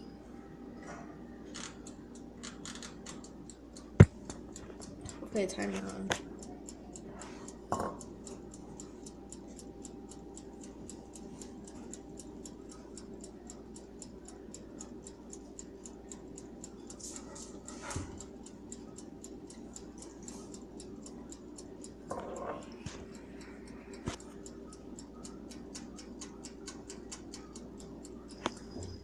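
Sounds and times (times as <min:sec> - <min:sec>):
steady low hum: 0:00.0 - 0:29.0
timer ticking: 0:01.5 - 0:29.0.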